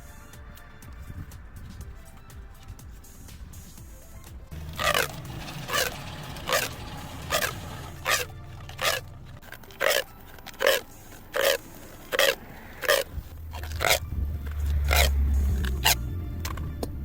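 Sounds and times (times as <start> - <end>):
rhythmic scraping strokes: 0.0 - 17.0.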